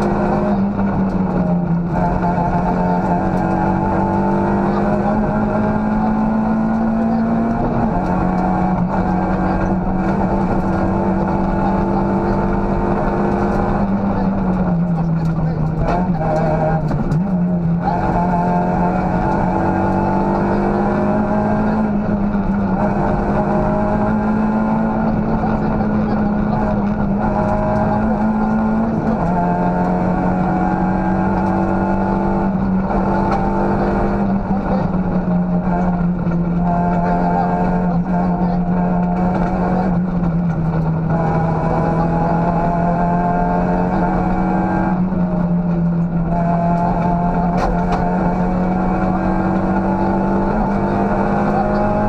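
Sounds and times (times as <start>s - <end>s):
rally car engine revving: 0.0s - 52.0s
road noise: 0.0s - 52.0s.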